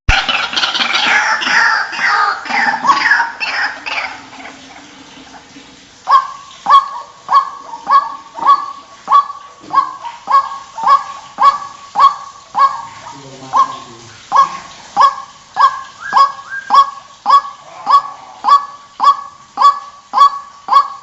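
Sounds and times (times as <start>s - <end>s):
waterhen harsh calls: 0.1s - 21.0s.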